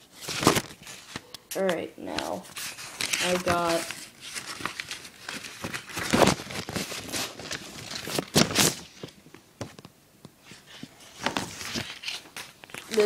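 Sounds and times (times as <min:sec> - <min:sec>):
paper envelope rustling: 0:00.0 - 0:01.4, 0:02.2 - 0:09.8, 0:10.5 - 0:13.0.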